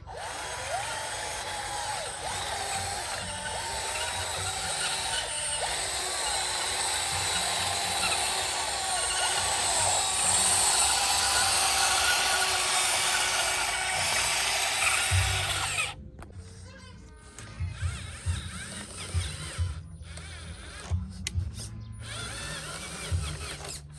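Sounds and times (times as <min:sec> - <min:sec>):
small electric motors whirring: 0:00.0 - 0:23.9.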